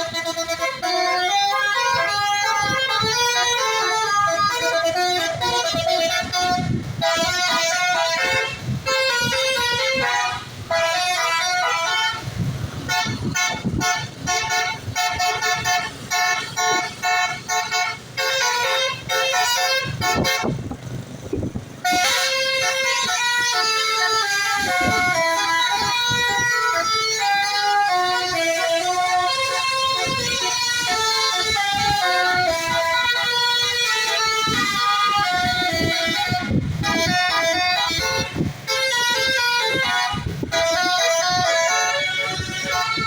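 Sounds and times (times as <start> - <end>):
bus multi-tone horn melody: 0.0 - 43.0
engine and traffic rumble: 0.0 - 43.0.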